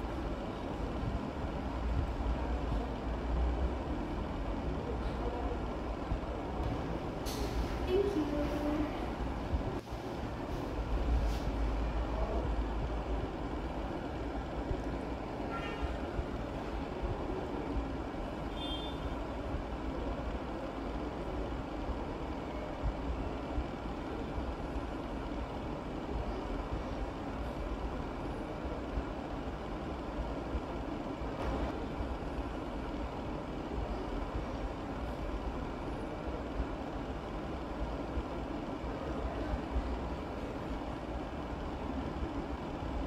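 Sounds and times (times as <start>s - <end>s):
kitchen ventilation rumble: 0.0s - 43.0s.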